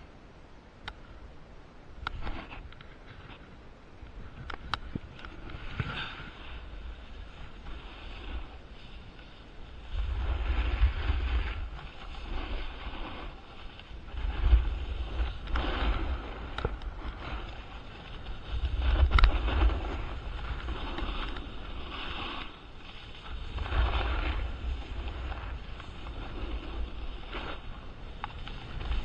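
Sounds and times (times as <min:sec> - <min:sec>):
wind on microphone: 0:00.8 - 0:29.0
skis scraping across snow: 0:02.1 - 0:03.6, 0:04.2 - 0:29.0.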